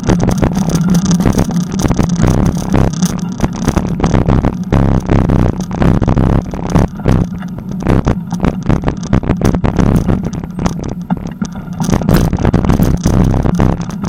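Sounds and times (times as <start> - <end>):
bicycle rattling and knocking: 0.0 - 14.0
wind rumbling on microphone: 0.0 - 14.0.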